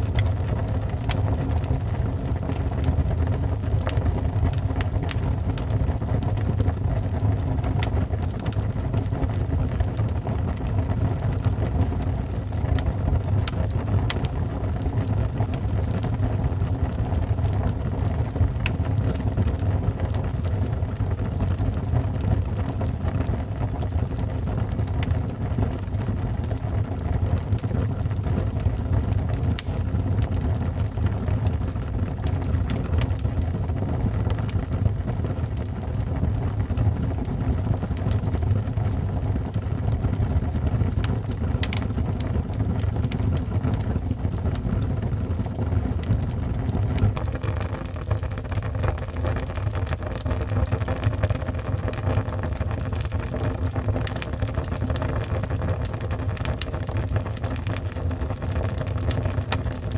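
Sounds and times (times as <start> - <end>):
fire flames rumbling: 0.0 - 59.9
logs crackling and popping: 0.0 - 59.9.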